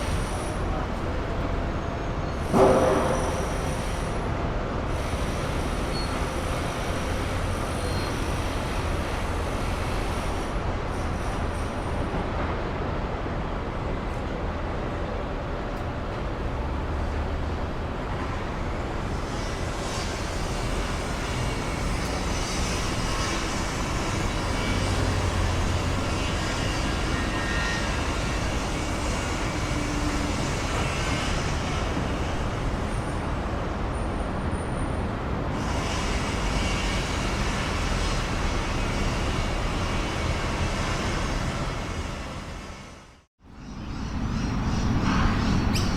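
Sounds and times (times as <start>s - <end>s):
passing traffic: 0.0s - 45.9s.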